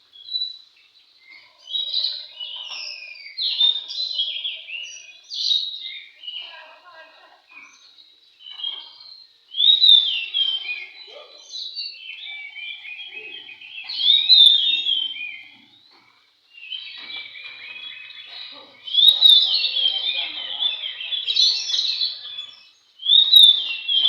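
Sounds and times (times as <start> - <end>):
birds singing whistled notes: 0.0 - 24.0.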